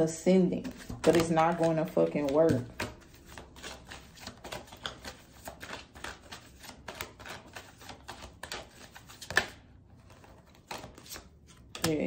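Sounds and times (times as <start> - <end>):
cards being shuffled: 0.6 - 12.0.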